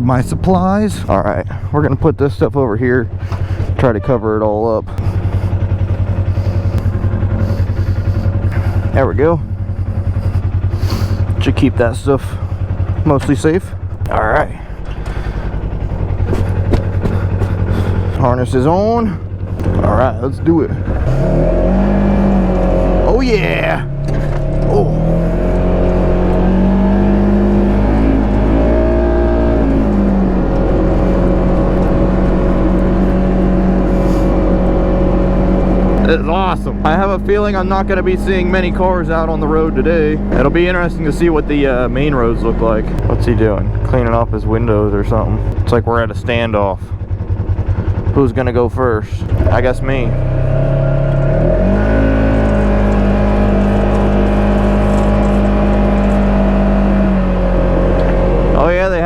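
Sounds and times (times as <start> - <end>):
low rumble: 0.0 - 59.0
vehicle engine running: 0.0 - 59.0.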